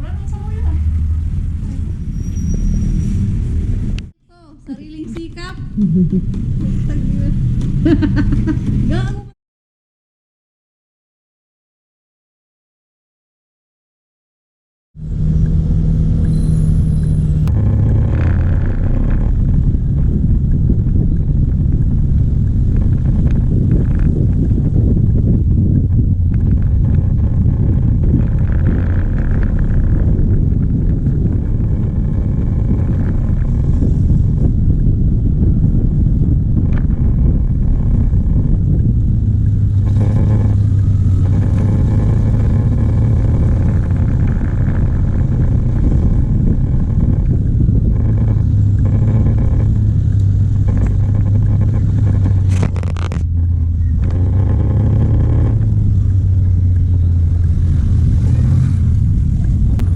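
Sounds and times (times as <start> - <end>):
road rumble: 0.0 - 9.4, 15.0 - 59.9
vehicle engine humming: 0.0 - 9.4, 15.0 - 59.9.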